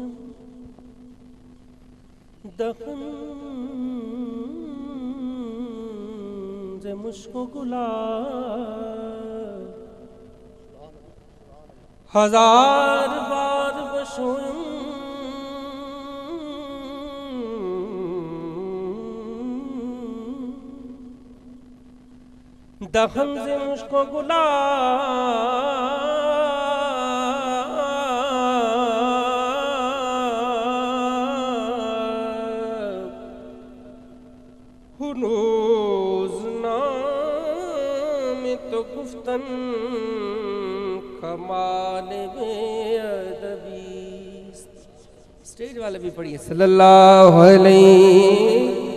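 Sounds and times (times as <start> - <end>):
man singing unaccompanied: 0.0 - 1.2, 2.4 - 22.0, 22.8 - 48.9.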